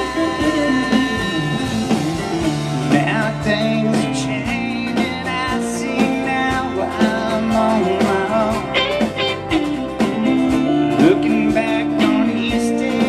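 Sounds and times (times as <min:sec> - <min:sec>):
acoustic guitar: 0:00.0 - 0:13.0
drums keeping a beat: 0:00.0 - 0:13.0
electric guitars: 0:00.0 - 0:13.0.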